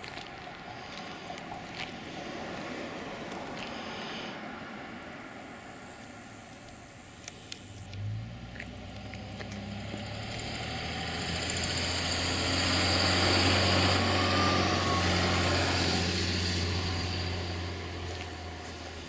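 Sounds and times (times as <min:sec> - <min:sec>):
vehicle passing by: 0:00.0 - 0:06.4, 0:07.8 - 0:19.0
engine humming: 0:00.0 - 0:19.0.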